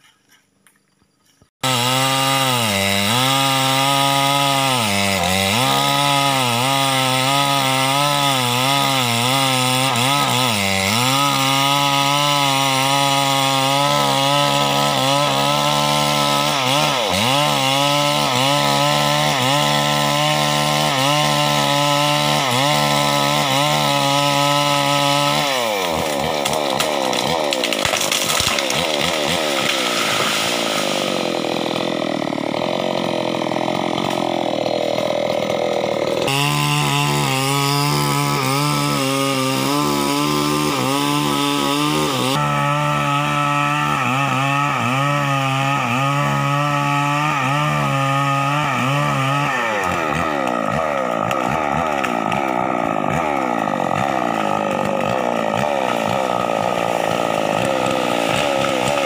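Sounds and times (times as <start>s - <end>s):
chainsaw engine revving: 1.6s - 59.0s.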